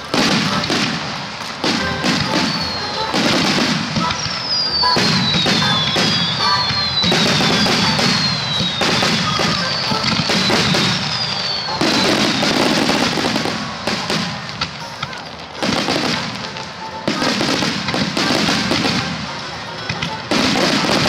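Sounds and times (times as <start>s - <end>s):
fireworks bursting and crackling: 0.0s - 21.0s
music playing: 0.0s - 21.0s.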